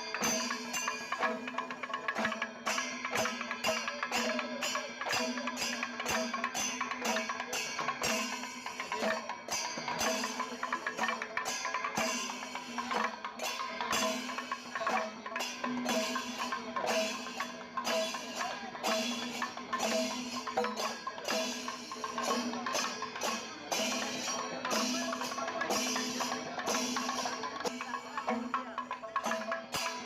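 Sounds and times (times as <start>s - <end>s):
background music with percussive beat: 0.0s - 30.0s.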